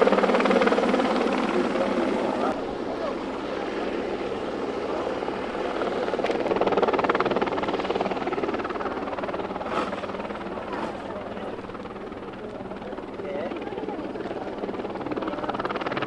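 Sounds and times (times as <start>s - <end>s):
helicopter rotor chopping: 0.0s - 16.0s.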